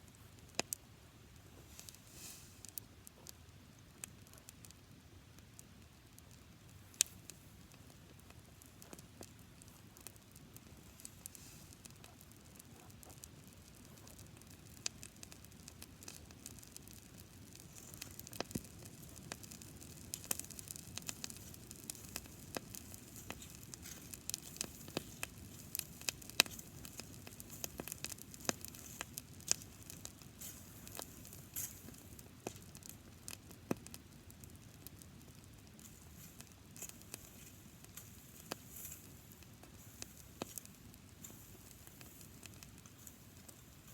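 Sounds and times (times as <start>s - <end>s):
grass fire crackling and popping: 0.0s - 43.9s.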